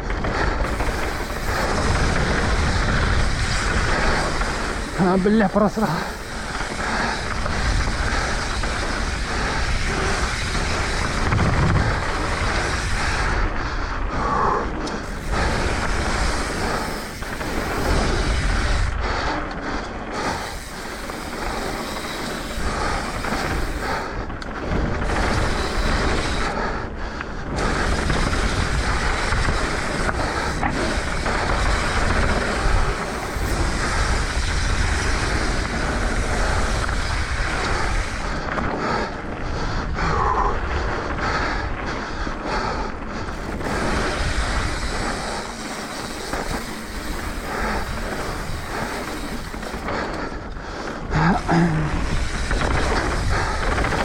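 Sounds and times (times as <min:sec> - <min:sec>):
bike tyres rolling on dirt: 0:00.0 - 0:54.0
wind rushing over camera: 0:00.0 - 0:54.0.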